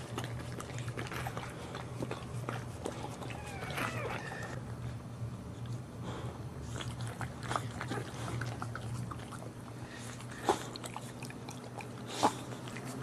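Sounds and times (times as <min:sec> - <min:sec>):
dog licking and chewing: 0:00.0 - 0:04.7, 0:06.6 - 0:13.0
steady low hum: 0:00.0 - 0:13.0.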